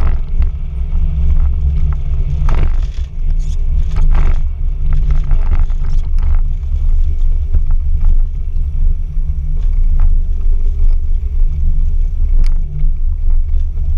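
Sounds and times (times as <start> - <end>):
car engine and drivetrain rumble: 0.0 - 13.9.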